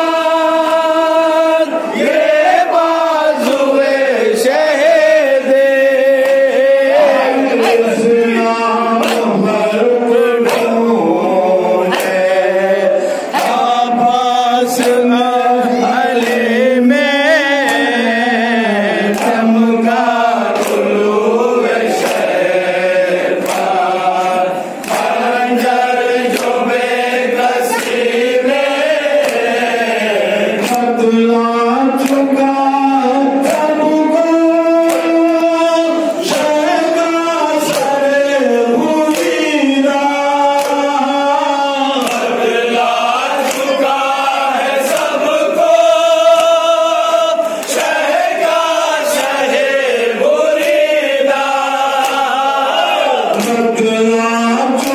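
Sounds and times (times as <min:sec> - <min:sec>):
man chanting a lament: 0:00.0 - 0:54.9.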